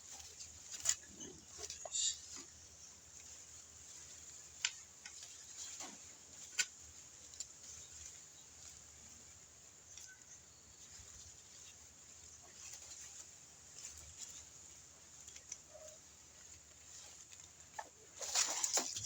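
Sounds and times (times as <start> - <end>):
scraping and rustling of earth: 0.0 - 19.0.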